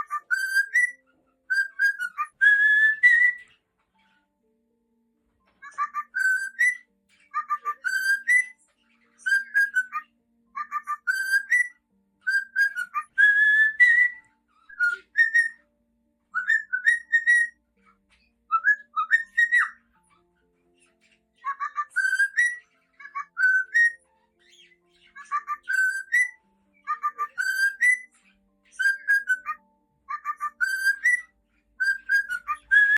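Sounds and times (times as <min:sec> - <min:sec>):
cockatiel whistling: 0:00.0 - 0:03.6, 0:05.6 - 0:08.6, 0:09.2 - 0:15.6, 0:16.3 - 0:17.9, 0:18.5 - 0:20.2, 0:21.4 - 0:32.9.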